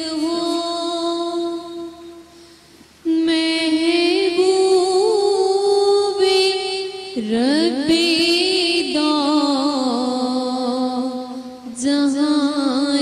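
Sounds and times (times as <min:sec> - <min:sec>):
girl reciting unaccompanied: 0:00.0 - 0:13.0.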